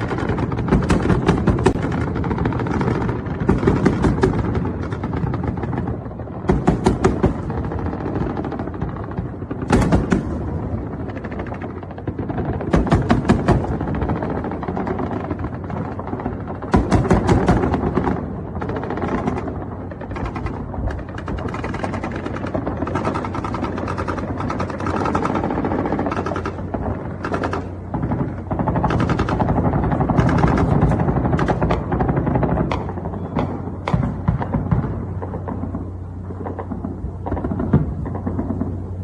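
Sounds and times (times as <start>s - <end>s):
anti-aircraft guns firing: 0.0s - 38.9s.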